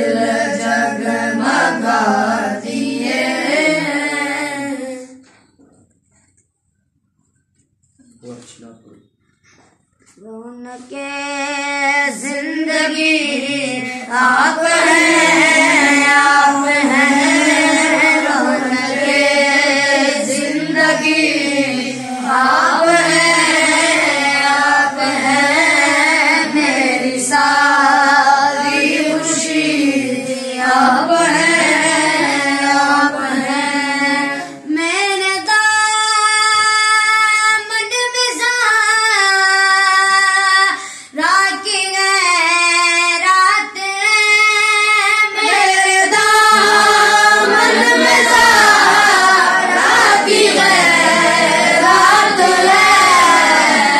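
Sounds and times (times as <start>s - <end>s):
boys singing unaccompanied: 0.0s - 5.3s, 10.3s - 53.9s.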